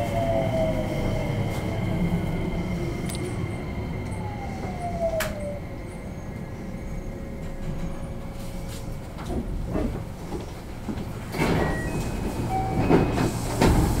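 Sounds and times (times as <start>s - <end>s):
electric train rolling to a stop: 0.0s - 14.0s
train doors sliding open: 0.0s - 14.0s.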